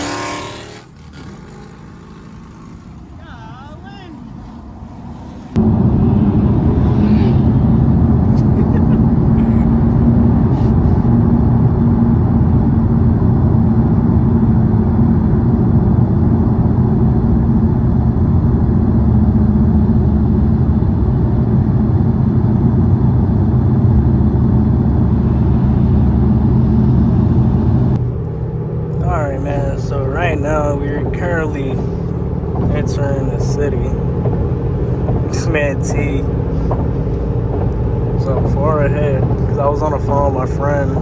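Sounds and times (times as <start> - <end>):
car engine drone: 0.0 - 41.0
tyre and road noise: 0.0 - 41.0.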